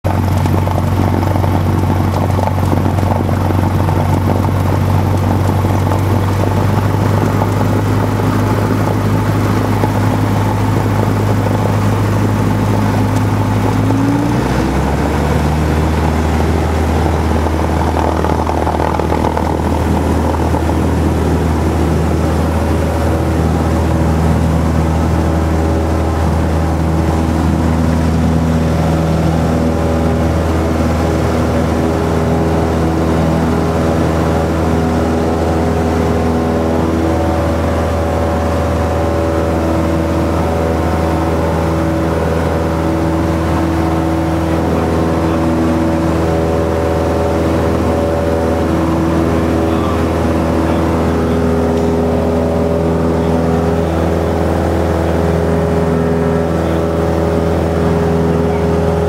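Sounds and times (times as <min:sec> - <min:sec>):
propeller aircraft engine at takeoff: 0:00.0 - 0:59.0.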